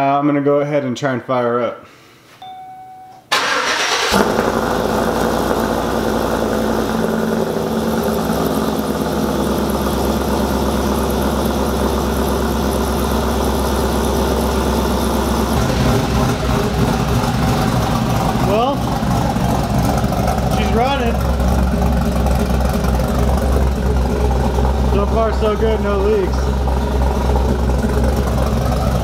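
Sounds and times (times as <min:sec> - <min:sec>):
truck engine cranking and idling: 0:03.3 - 0:29.0.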